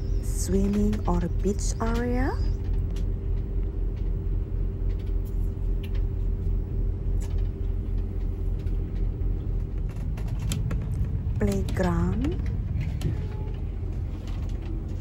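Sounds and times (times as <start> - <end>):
faint steady hum: 0.0 - 15.0
vehicle engine and road rumble: 0.0 - 15.0.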